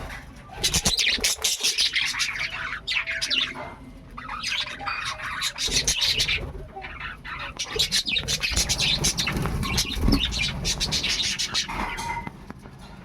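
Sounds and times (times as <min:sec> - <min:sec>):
budgerigars chattering: 0:00.0 - 0:12.3.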